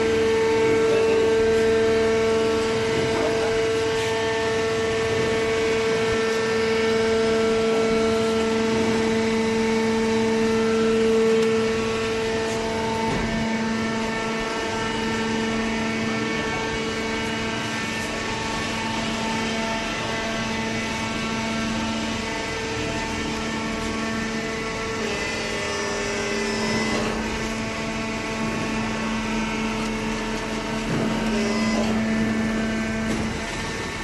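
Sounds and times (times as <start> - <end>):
baling press motor hum: 0.0 - 34.0.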